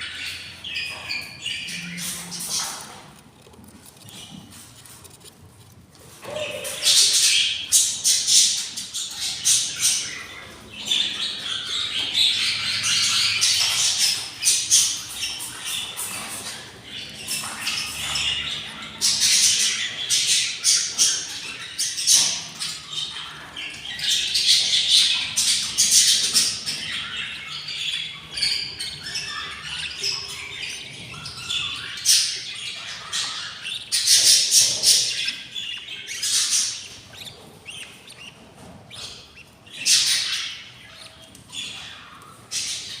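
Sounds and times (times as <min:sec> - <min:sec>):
budgerigars chirping and squawking: 0:00.0 - 0:05.4, 0:06.0 - 0:43.0.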